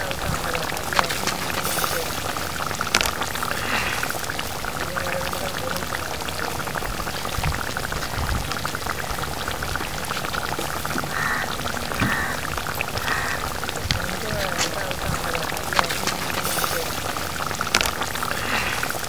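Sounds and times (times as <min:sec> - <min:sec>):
broth bubbling in a pan: 0:00.0 - 0:19.0.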